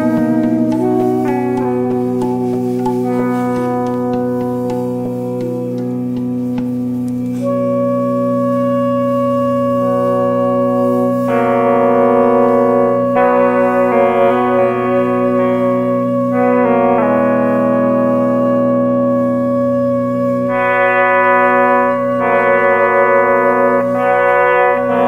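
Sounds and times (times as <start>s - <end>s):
background music of held chords: 0.0s - 25.0s.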